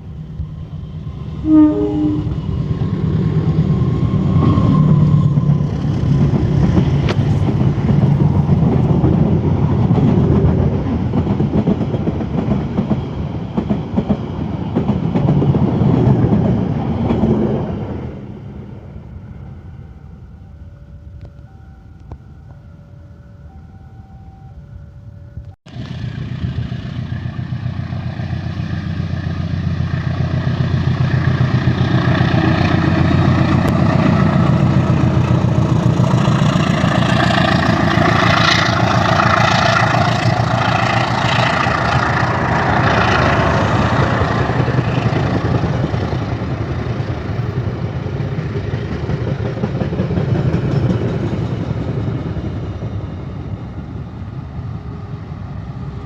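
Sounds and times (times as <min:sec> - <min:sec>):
locomotive engine rumbling: 0:00.0 - 0:56.0.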